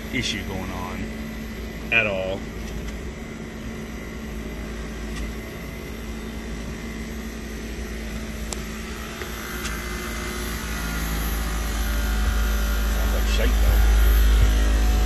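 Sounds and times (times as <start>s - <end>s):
compressor rough drone: 0.0s - 15.0s.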